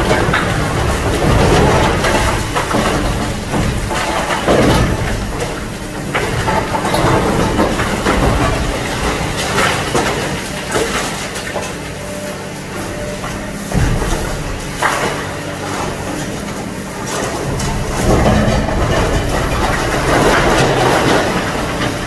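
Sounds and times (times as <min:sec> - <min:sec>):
concrete cracking and crunching: 0:00.0 - 0:11.8, 0:12.8 - 0:22.0
diesel engine running: 0:00.0 - 0:22.0.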